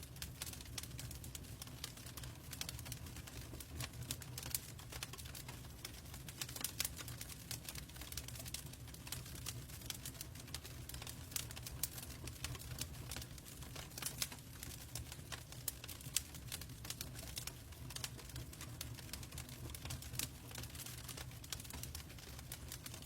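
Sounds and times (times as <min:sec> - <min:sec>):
logs crackling in fireplace: 0:00.0 - 0:23.0
low fire rumble: 0:00.0 - 0:23.0.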